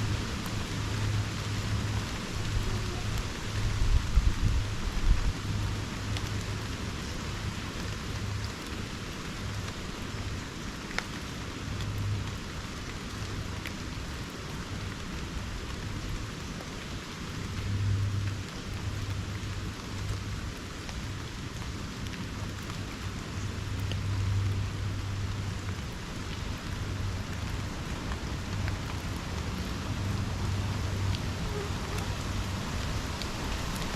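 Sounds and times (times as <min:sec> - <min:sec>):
rain falling on foliage: 0:00.0 - 0:33.9.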